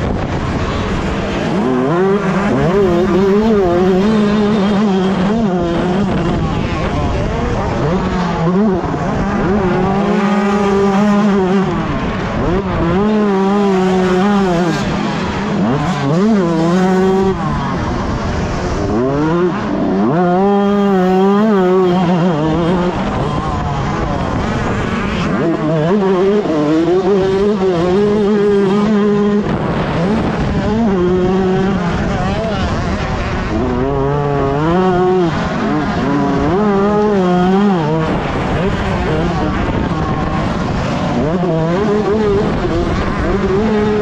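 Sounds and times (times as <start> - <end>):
motocross engine revving: 0.0 - 44.0.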